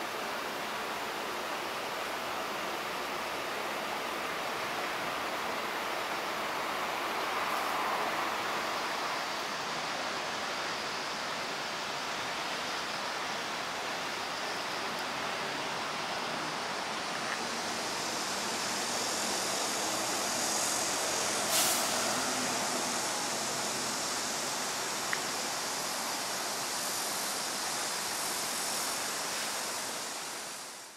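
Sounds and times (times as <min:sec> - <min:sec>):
outdoor hiss: 0:00.0 - 0:30.9.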